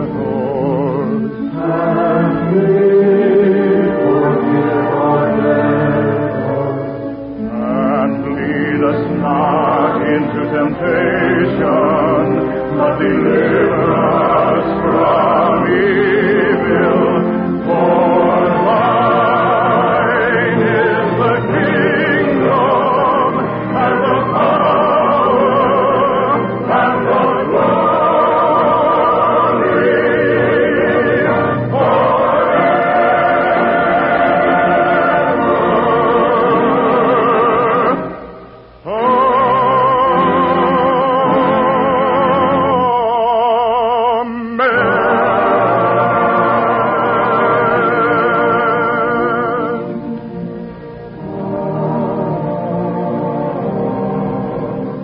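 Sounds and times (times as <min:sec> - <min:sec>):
choir singing with accompaniment: 0:00.0 - 0:55.0.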